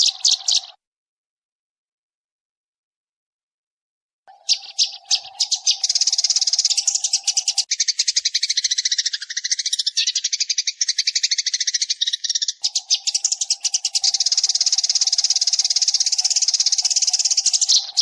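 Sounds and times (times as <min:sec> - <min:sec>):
sparrows chirping: 0:00.0 - 0:00.8, 0:04.3 - 0:18.0.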